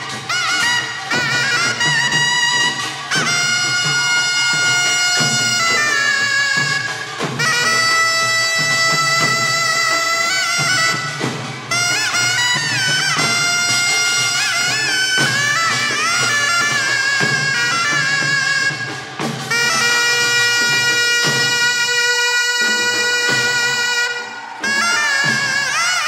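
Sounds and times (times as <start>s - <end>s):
percussion strokes: 0.0s - 26.0s
reedy shawm melody: 0.0s - 26.0s.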